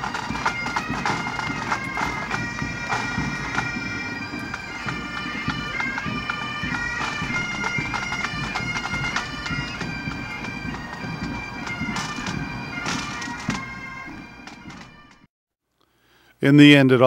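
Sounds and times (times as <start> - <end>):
bagpipes playing a tune: 0.0 - 15.3.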